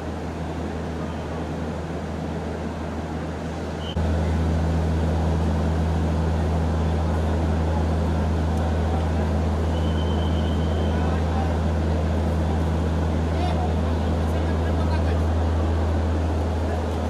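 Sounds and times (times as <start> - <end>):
station noise: 0.0 - 17.0
train power equipment droning: 0.0 - 17.0.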